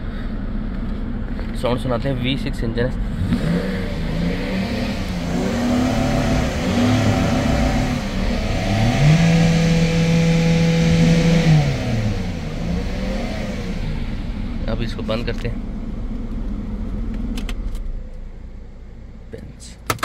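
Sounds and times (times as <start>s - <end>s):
car engine revving: 0.0s - 19.1s.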